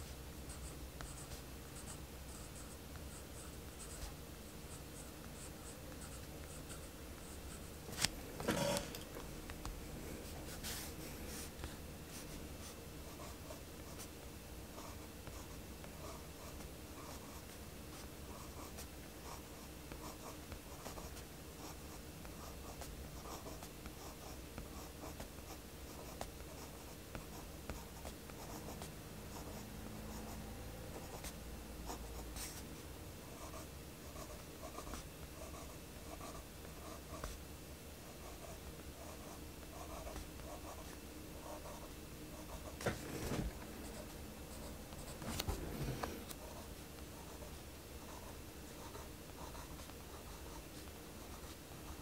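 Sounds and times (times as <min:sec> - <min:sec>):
pencil scratching on paper: 0:00.0 - 0:07.8, 0:08.4 - 0:09.0, 0:14.8 - 0:37.4, 0:38.1 - 0:52.0.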